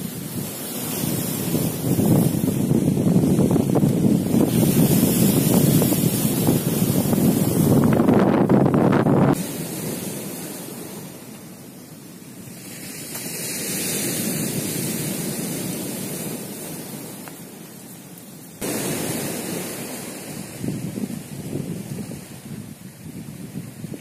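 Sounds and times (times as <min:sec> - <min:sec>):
surf on pebble beach: 0:00.0 - 0:24.0.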